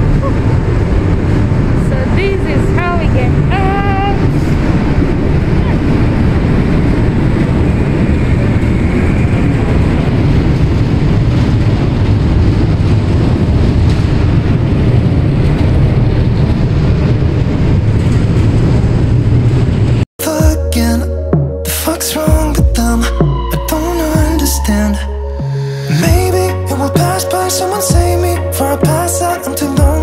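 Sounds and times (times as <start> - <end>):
ship engine rumble: 0.0 - 30.0.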